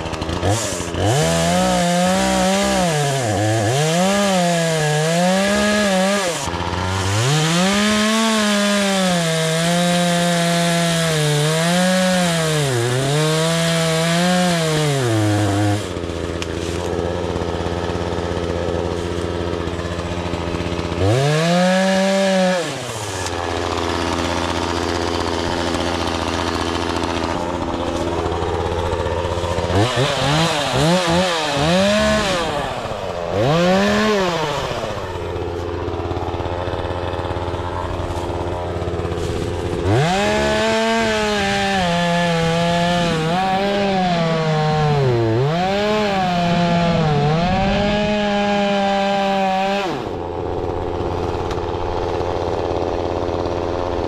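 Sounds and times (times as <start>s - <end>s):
chainsaw cutting wood: 0.0s - 54.0s
chainsaw idling and revving: 0.0s - 54.0s.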